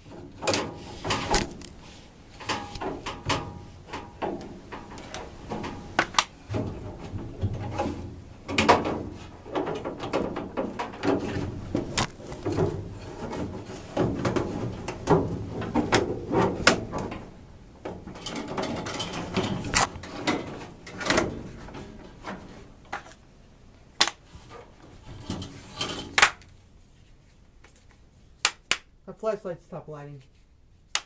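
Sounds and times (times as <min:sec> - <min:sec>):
scrapes knocks and rattles: 0:00.0 - 0:23.2, 0:24.4 - 0:26.2.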